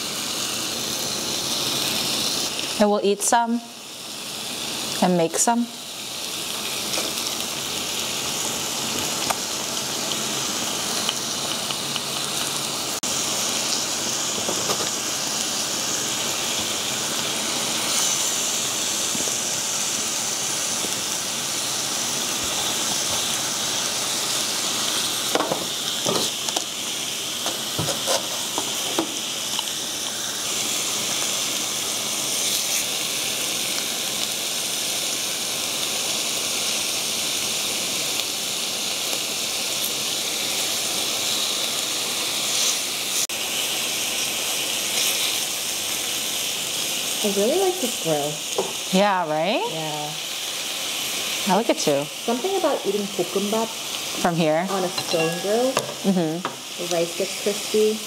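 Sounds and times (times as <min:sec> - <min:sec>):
meat sizzling on a grill pan: 0:00.0 - 0:58.0.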